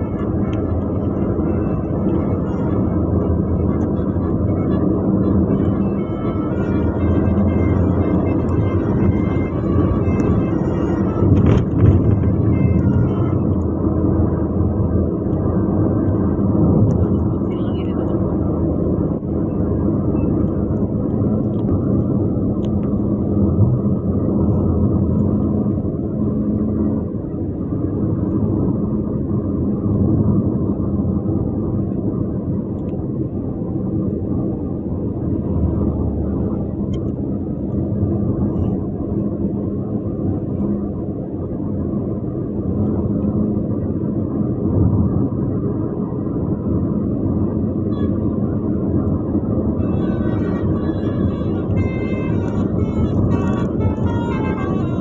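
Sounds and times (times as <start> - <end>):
faint engine hum: 0.0 - 55.0
road noise: 0.0 - 55.0
vehicle engine drone: 0.0 - 55.0.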